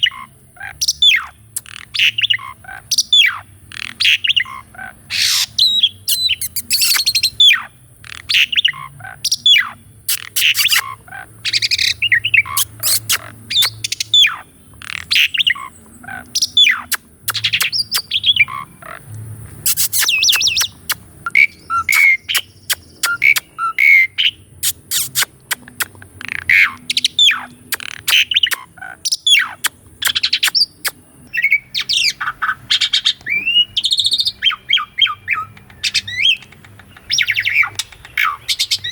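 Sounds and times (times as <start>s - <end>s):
starling singing: 0.0s - 18.8s, 19.6s - 38.9s.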